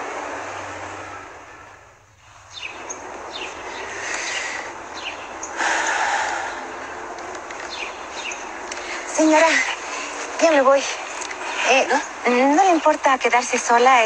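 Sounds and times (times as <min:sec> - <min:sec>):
outdoor hiss: 0:00.0 - 0:14.0
birds chirping: 0:00.2 - 0:14.0.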